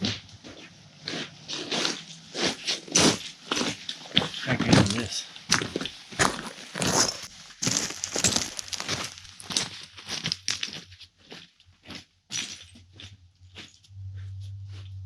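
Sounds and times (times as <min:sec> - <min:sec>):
footsteps on gravel: 0:00.0 - 0:15.0.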